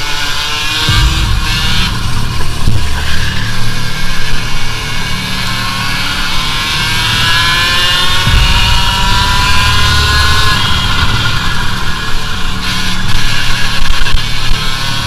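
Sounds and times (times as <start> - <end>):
kart engine accelerating: 0.0 - 15.0
low rumble: 0.8 - 15.0.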